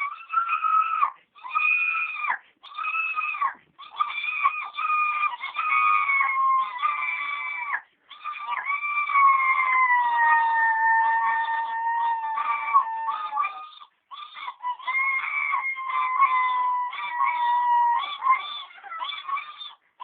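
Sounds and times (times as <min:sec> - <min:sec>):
girls squealing like an animal: 0:00.0 - 0:19.8.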